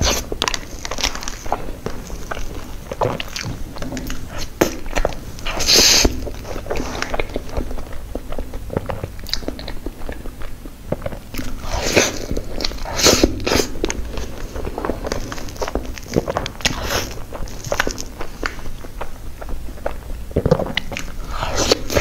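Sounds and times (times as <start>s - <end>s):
food squish: 0.0s - 22.0s
lip smacks: 0.0s - 22.0s
wet chewing: 0.0s - 22.0s.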